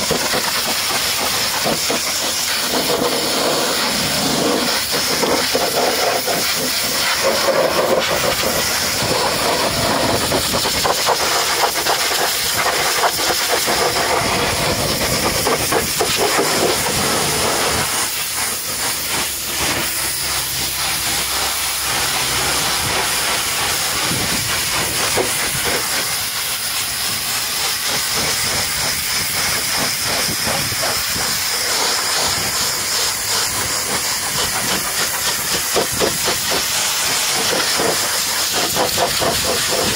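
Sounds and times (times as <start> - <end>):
pressure washer hissing: 0.0 - 39.9
water spattering off wheel: 0.0 - 39.9.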